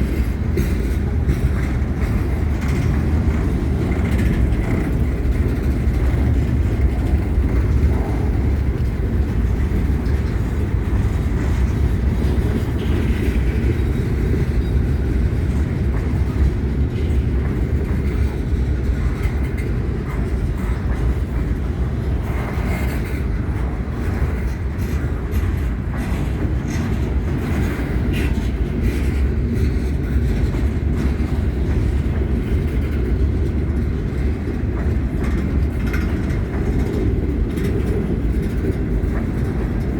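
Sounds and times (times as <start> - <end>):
freight train rumbling past: 0.0 - 39.9
wheels clicking on rails: 0.0 - 39.9.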